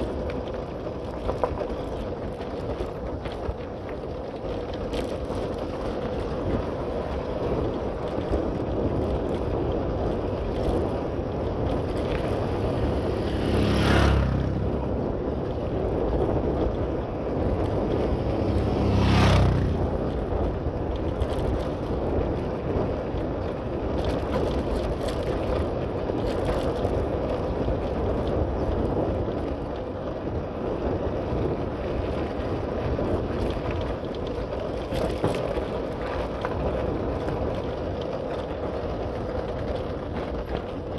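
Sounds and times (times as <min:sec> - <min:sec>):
wind and road noise from bike: 0:00.0 - 0:40.9.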